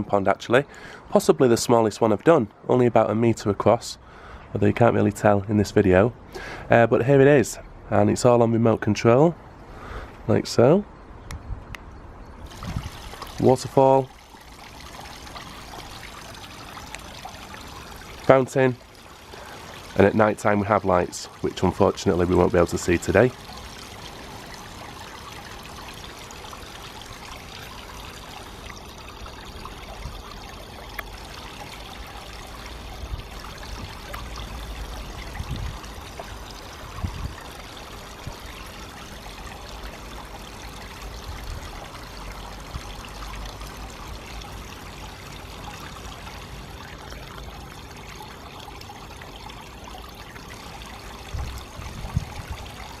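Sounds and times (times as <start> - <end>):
water splashing and trickling: 0.0 - 53.0.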